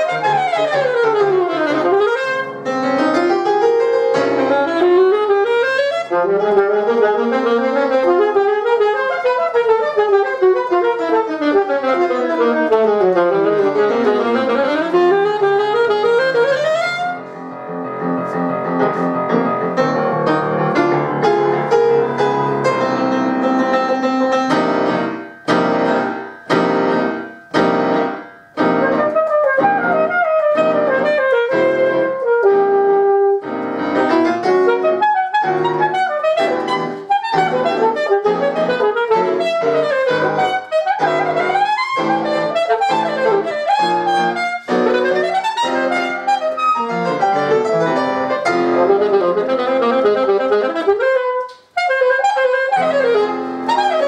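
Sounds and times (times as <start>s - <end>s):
alto saxophone: 0.0s - 54.0s
grand piano: 0.0s - 54.0s.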